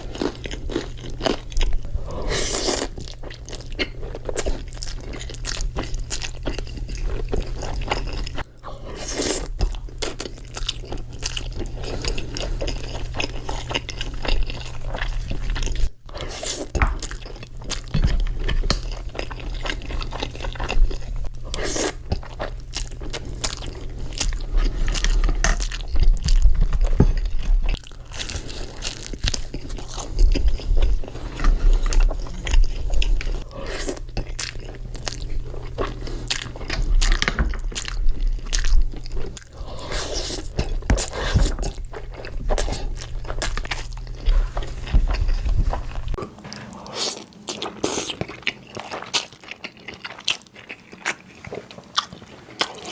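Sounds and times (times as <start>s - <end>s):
chewing and biting food: 0.0s - 52.9s.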